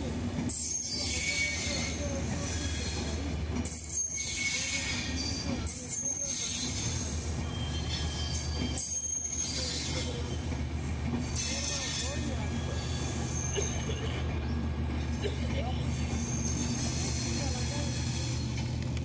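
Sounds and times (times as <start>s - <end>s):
train wheels rumbling on rails: 0.0s - 19.0s
high wheel squeal: 0.5s - 15.2s, 15.8s - 18.8s.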